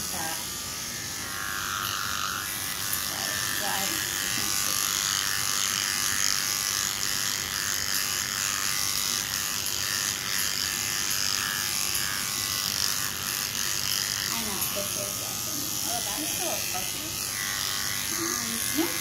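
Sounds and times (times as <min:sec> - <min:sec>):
electric pet clipper running: 0:00.0 - 0:19.0.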